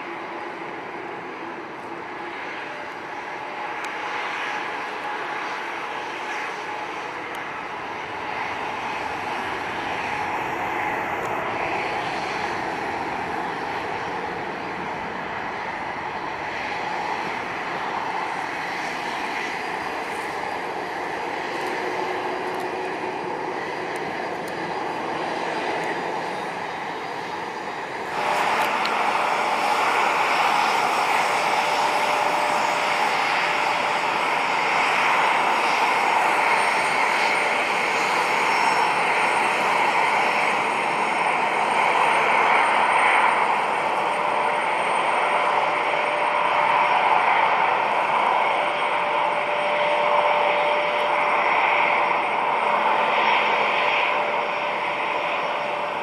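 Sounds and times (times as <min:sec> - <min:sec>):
jet engines rushing: 0:00.0 - 0:56.0
regional jet taxiing: 0:00.0 - 0:56.0.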